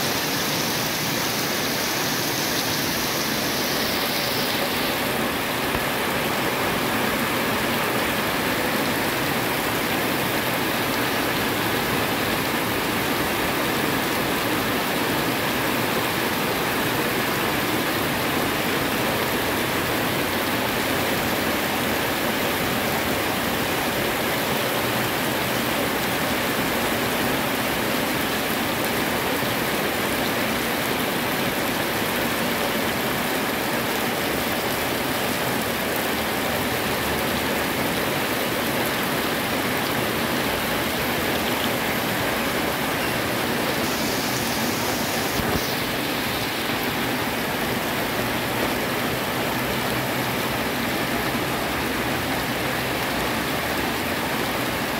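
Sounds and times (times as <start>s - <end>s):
heavy rain on a paved road: 0.0s - 54.9s.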